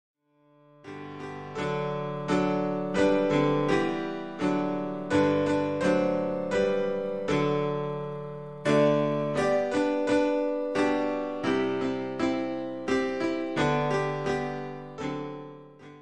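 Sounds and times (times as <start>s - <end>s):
slow piano chords: 0.6s - 16.0s.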